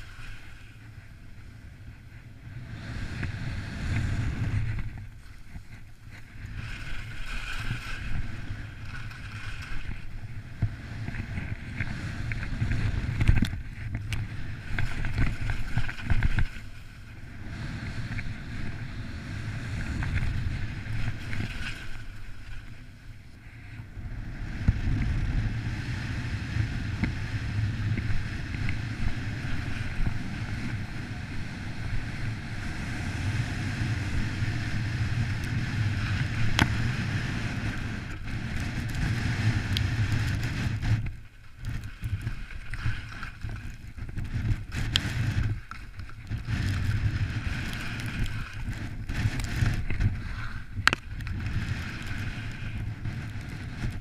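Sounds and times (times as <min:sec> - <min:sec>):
wind buffeting microphone: 0:00.8 - 0:23.2, 0:23.8 - 0:54.0.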